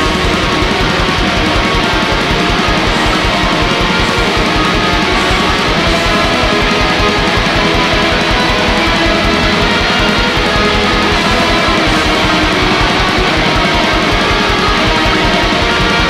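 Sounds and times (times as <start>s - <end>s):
distorted electric guitars: 0.0s - 16.0s
rapid low drum beats: 0.0s - 16.0s.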